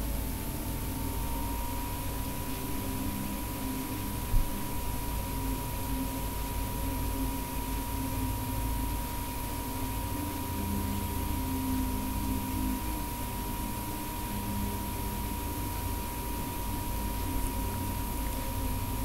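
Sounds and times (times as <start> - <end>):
low electrical hum and hiss: 0.0 - 19.0.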